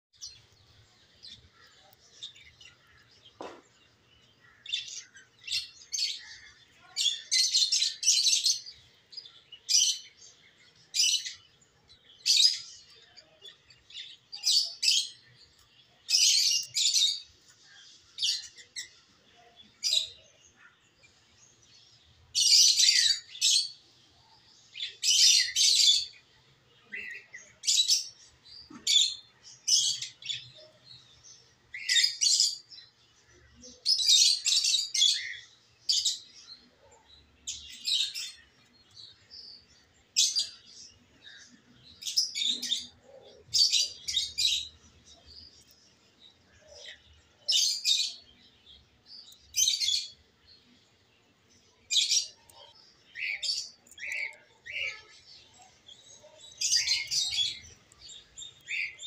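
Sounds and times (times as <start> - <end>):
small birds chirping: 0.1 - 59.0.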